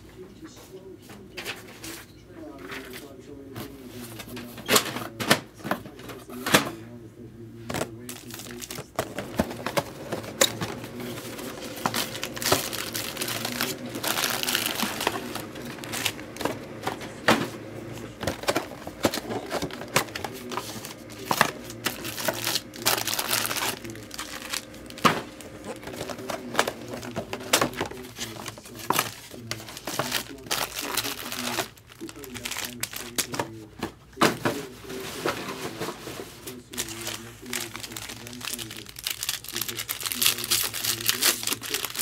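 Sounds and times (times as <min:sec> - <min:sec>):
plastic wrapping crinkling and tearing: 0:07.7 - 0:33.7, 0:34.3 - 0:42.0.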